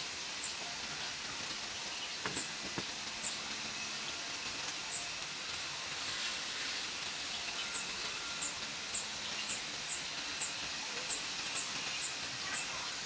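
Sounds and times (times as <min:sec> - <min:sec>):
outdoor ambient hiss: 0:00.0 - 0:13.0.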